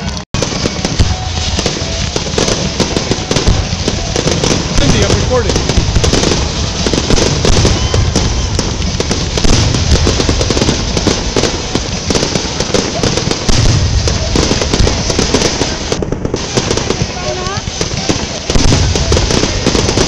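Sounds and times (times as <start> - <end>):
fireworks crackling and banging: 0.0 - 20.0.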